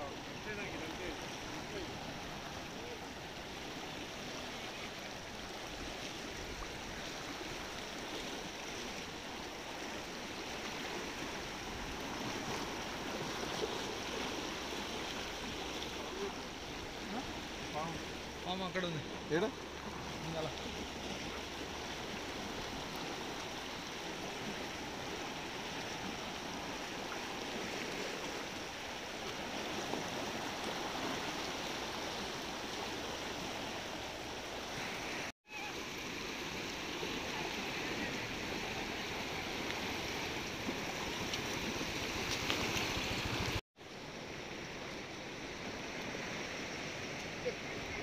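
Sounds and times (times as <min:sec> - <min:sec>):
river rushing: 0:00.0 - 0:48.0.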